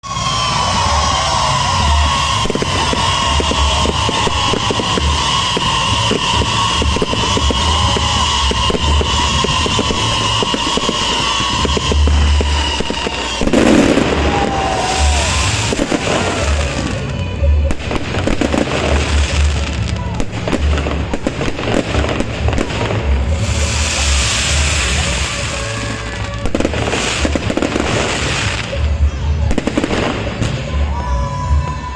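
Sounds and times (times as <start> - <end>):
low fireworks booms: 0.0 - 31.8
fireworks bangs and crackles: 0.0 - 31.9.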